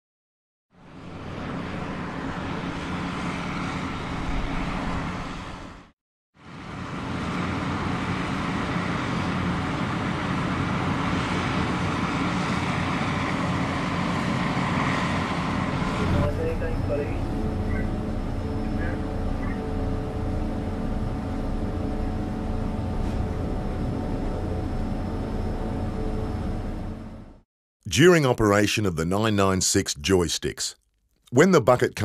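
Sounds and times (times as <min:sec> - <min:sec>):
heavy diesel machinery running: 0:00.8 - 0:27.4.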